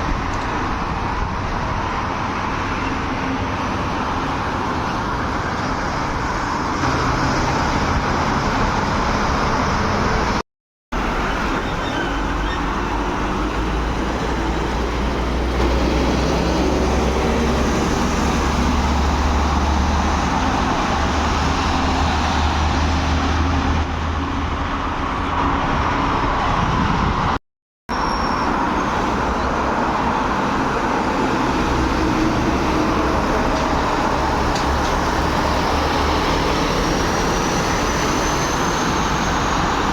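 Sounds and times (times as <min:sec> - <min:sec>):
heavy trucks passing: 0:00.1 - 0:39.9.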